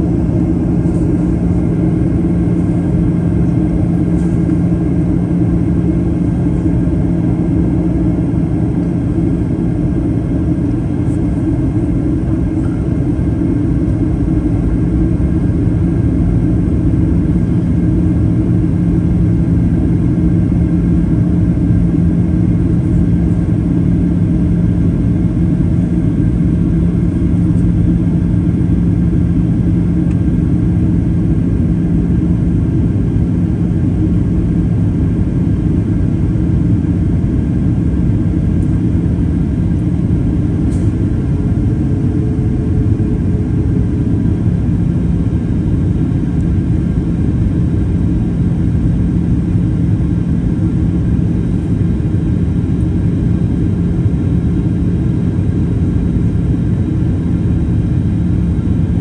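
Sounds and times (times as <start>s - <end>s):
jet engines in cabin: 0.0s - 59.0s
steady low hum: 0.0s - 59.0s.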